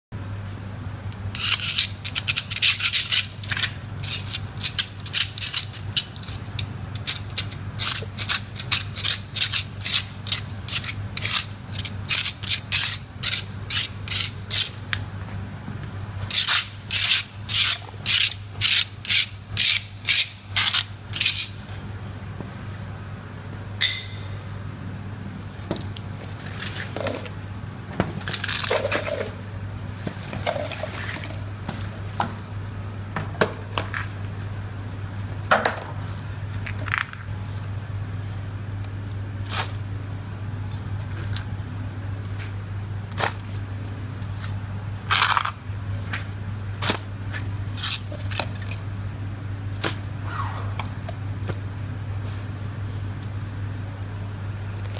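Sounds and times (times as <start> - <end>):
steady low hum: 0.1 - 54.9.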